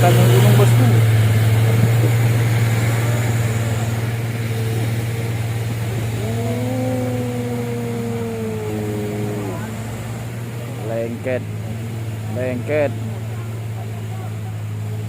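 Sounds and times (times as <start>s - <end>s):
higher rising tone: 0.0s - 13.6s
diesel truck engine humming: 0.0s - 15.0s.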